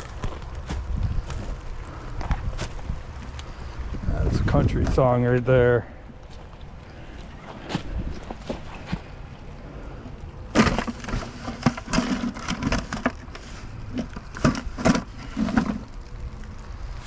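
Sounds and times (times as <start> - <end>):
crunching in dry leaves and sticks: 0.0 - 17.0.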